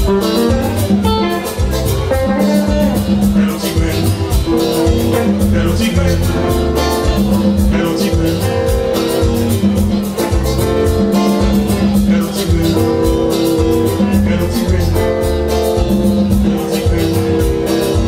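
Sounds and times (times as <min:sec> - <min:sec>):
bass line: 0:00.0 - 0:18.0
electric guitar: 0:00.0 - 0:18.0
steady beat: 0:00.0 - 0:18.0.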